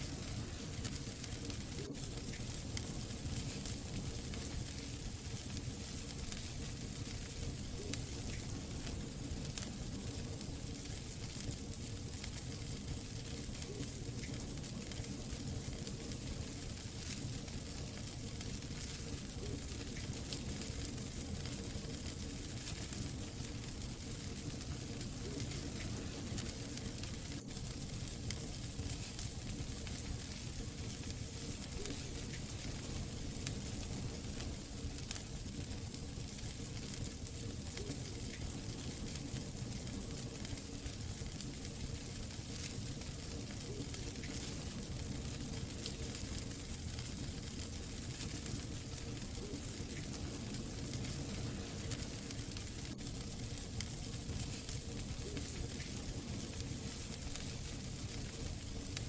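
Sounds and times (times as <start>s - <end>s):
fire crackles: 0.0s - 59.0s
fire flames rumbling: 0.0s - 59.0s
wood fire pops: 0.0s - 59.0s.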